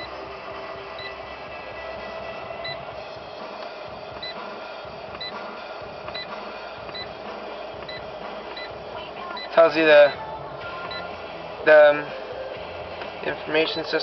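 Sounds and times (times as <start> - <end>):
low cabin hum: 0.0 - 14.0.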